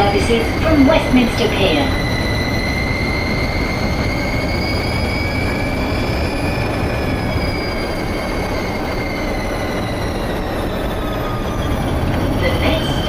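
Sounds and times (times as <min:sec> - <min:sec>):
train deep rumble: 0:00.0 - 0:13.0
train high steady whine: 0:00.0 - 0:13.0.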